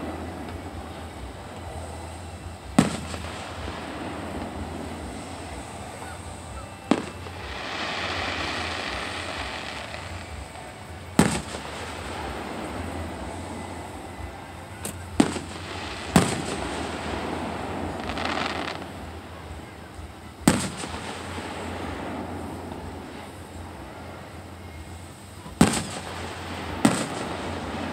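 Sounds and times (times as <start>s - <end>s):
firework shells bursting: 0.0s - 23.6s, 25.2s - 27.9s
hiss: 0.0s - 27.9s.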